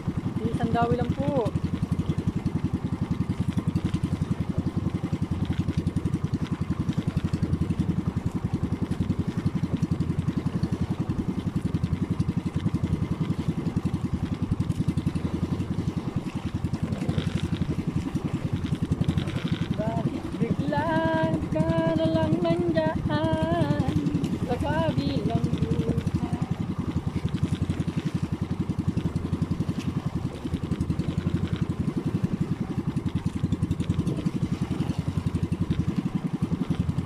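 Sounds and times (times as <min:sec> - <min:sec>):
small boat engine running: 0:00.0 - 0:37.0.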